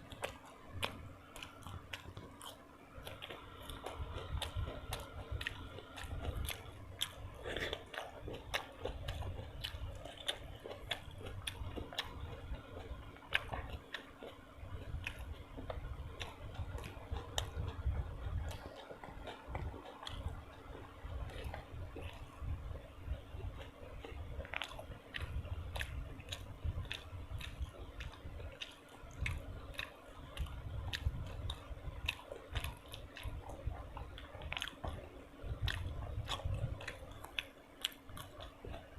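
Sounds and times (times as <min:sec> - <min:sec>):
food crunching: 0:00.0 - 0:38.9
person chewing food: 0:00.0 - 0:38.9
wet mouth clicks: 0:00.0 - 0:38.9.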